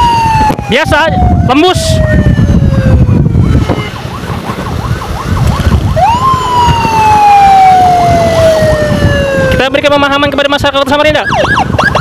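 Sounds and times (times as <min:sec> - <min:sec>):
faint warbling siren: 0:00.0 - 0:09.7, 0:11.2 - 0:12.0
wailing emergency siren: 0:00.0 - 0:10.1, 0:11.0 - 0:12.0
road noise: 0:00.0 - 0:12.0.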